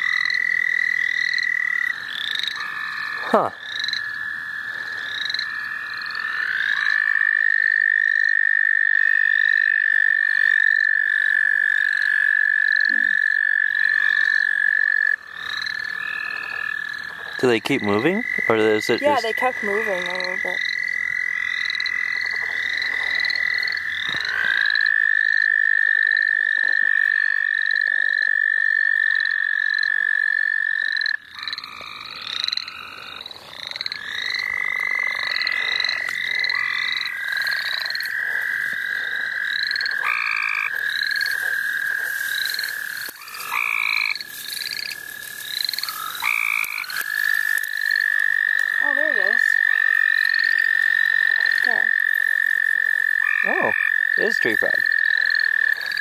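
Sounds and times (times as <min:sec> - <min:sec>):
frogs chirping: 0:00.0 - 0:56.0
frogs trilling: 0:00.0 - 0:56.0.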